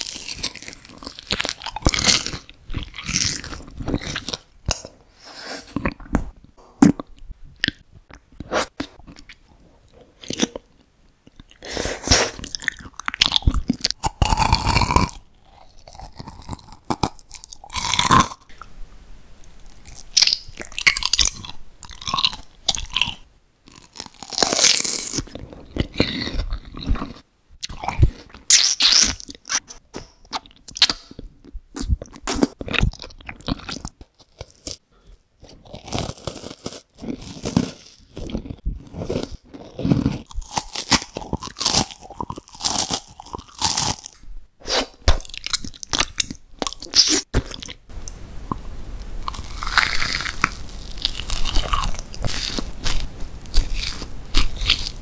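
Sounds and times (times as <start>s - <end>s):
person chewing and crunching candy: 0.0s - 18.8s, 19.4s - 55.0s.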